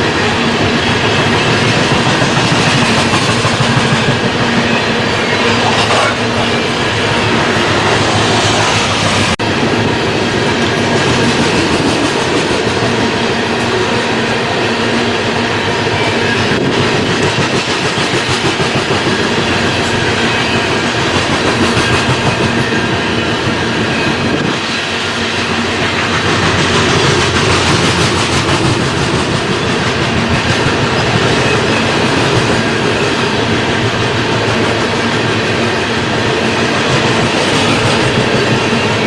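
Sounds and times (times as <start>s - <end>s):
train cars rumbling past: 0.0s - 39.0s
wheels clacking over rail joints: 0.0s - 39.0s.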